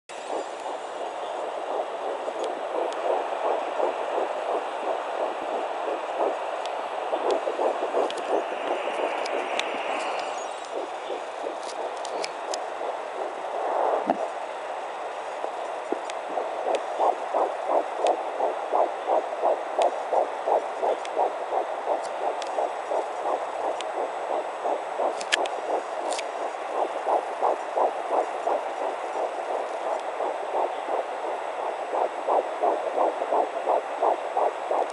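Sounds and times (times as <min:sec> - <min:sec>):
fetal heartbeat whooshing pulse: 0:00.1 - 0:34.9.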